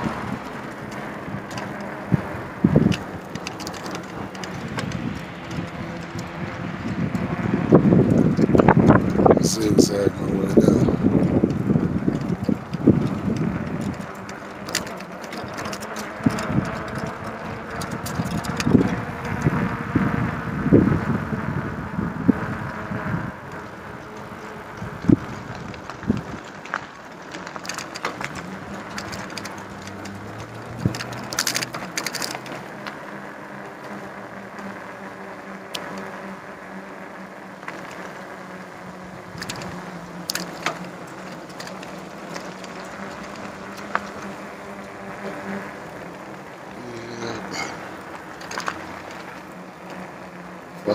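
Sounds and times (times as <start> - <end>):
bicycle clicks and rattles: 0.0 - 50.9
bicycle riding noise: 0.0 - 50.9
rumbling on microphone: 0.0 - 50.9.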